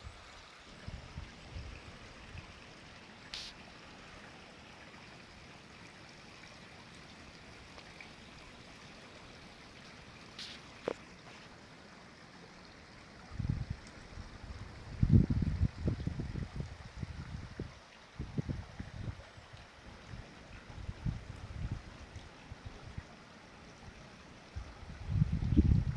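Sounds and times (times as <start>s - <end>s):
creek water rushing: 0.0s - 25.9s.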